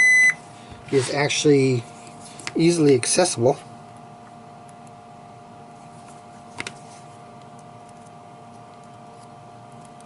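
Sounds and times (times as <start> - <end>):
faint electrical whine: 0.0 - 10.0.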